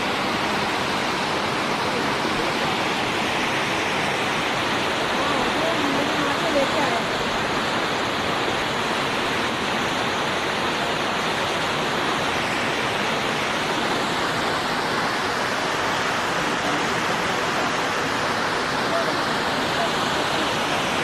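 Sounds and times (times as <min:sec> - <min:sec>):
waterfall rushing and splashing: 0:00.0 - 0:21.0.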